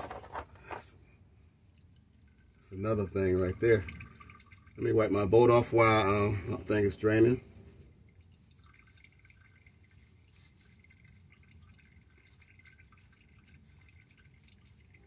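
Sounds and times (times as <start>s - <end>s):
oil dripping into a drain pan: 0.0s - 15.0s.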